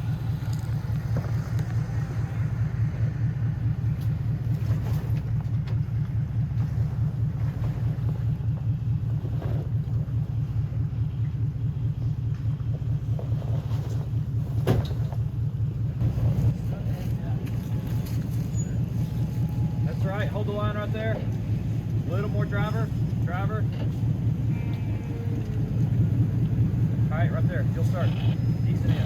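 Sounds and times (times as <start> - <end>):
off-road vehicle engine rumbling: 0.0 - 29.0.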